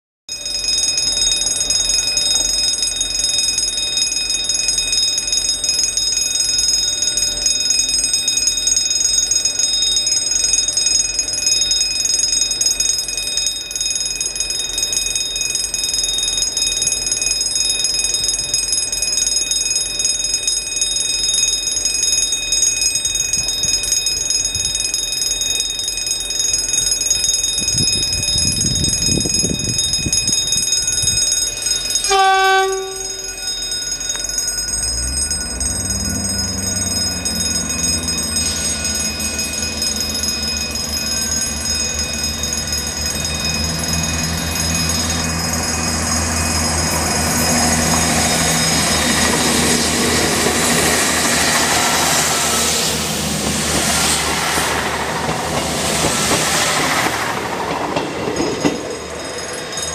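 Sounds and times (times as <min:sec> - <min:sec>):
level crossing bell ringing: 0:00.3 - 0:59.9
diesel train rumble: 0:00.6 - 0:59.9.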